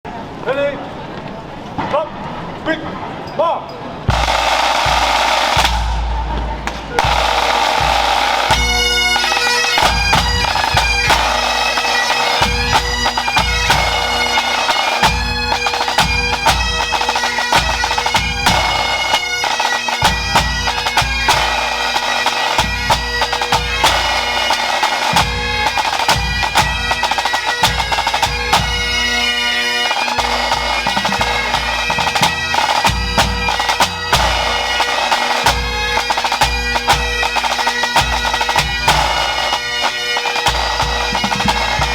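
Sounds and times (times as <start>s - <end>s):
bagpipes playing: 4.1s - 41.9s
band drums beating: 4.1s - 41.9s.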